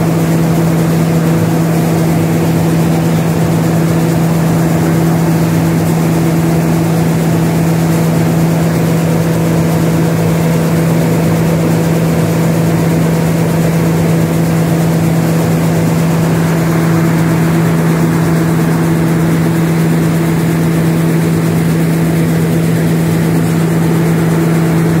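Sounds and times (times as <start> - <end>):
machine mechanical hum: 0.0 - 25.0.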